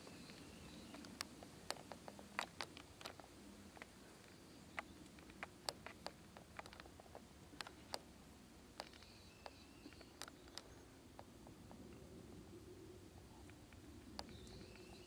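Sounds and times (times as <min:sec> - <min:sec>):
faint low hum: 0:00.0 - 0:15.0
sharp clicks and ticks: 0:00.2 - 0:08.1, 0:08.7 - 0:12.0, 0:13.4 - 0:15.0.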